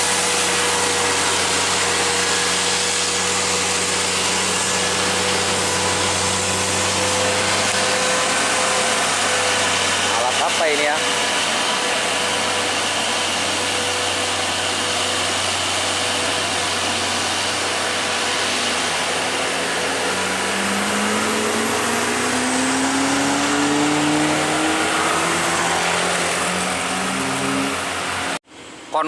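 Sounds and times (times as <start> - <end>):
heavy truck engine under load: 0.0 - 28.5
road noise: 0.0 - 29.0.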